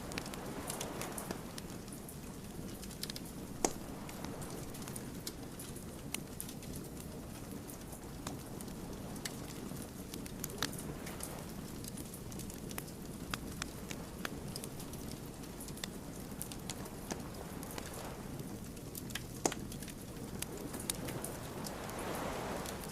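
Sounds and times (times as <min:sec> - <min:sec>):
burning logs popping: 0:00.0 - 0:22.9
wood fire crackling: 0:00.0 - 0:22.9.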